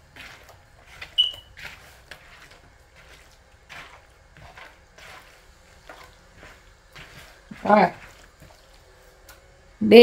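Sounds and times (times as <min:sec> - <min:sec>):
wet squelching of raw chicken: 0:00.0 - 0:09.5.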